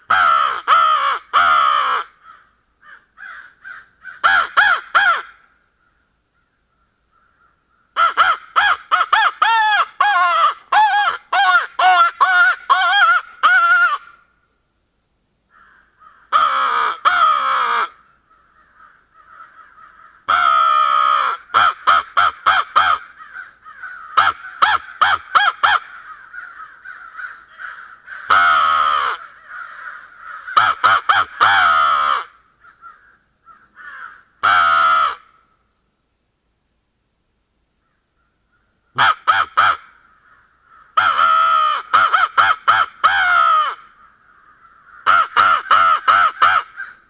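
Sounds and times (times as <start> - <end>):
crow call caws: 0.0 - 14.2, 15.5 - 35.5, 37.8 - 47.0
distant crows cawing: 0.0 - 14.3, 15.5 - 35.6, 37.8 - 47.0.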